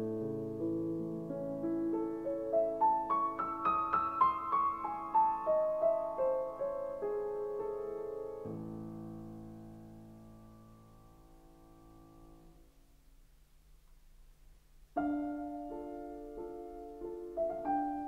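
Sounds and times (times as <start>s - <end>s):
solo piano music: 0.0s - 12.8s, 14.8s - 18.0s.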